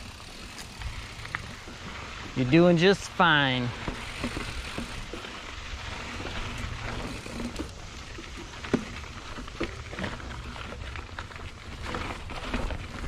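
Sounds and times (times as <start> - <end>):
bike rattling clicks and knocks: 0.0 - 13.0
tyres rushing on dirt: 0.0 - 13.0
wind: 0.0 - 13.0.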